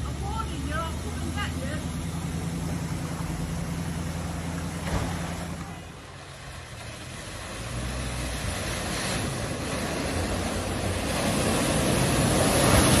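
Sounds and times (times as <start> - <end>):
broad rushing noise: 0.0 - 13.0
vehicle engine humming: 0.0 - 13.0.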